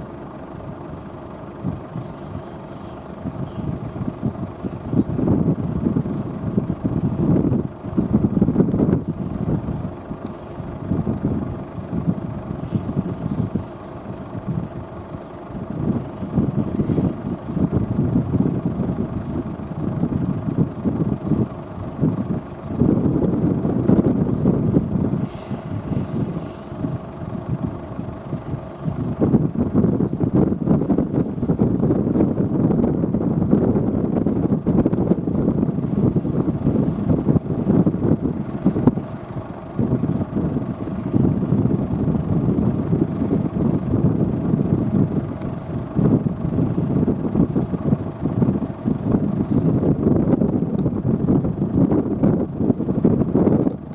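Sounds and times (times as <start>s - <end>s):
tractor engine running: 0.0s - 53.9s
wind buffeting microphone: 0.0s - 53.9s.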